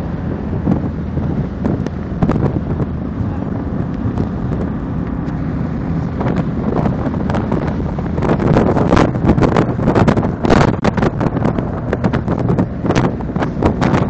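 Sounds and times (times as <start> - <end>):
car engine cruising: 0.0 - 14.0
road noise: 0.0 - 14.0
wind buffeting microphone: 0.0 - 14.0.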